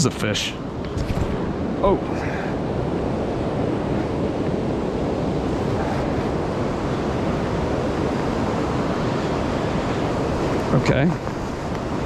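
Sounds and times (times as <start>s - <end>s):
wind on microphone: 0.0s - 12.0s
river water rushing: 0.1s - 12.0s.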